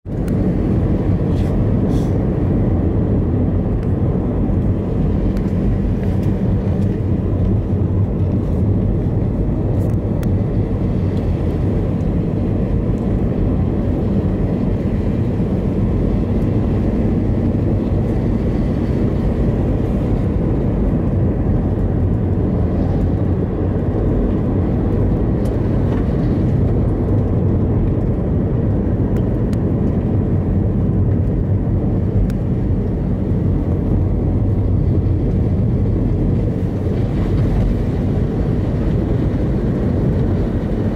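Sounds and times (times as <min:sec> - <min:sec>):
car cabin road and engine noise: 0:00.0 - 0:40.9.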